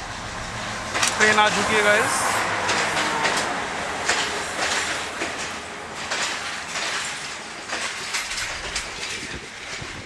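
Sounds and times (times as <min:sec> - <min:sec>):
train hissing rush: 0:00.0 - 0:10.0
train wheels clacking over joints: 0:00.9 - 0:10.0.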